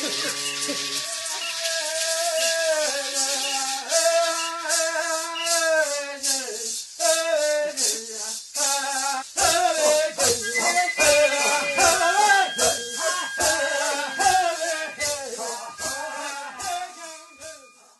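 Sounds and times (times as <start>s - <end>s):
instrumental music with shaker: 0.0s - 17.9s.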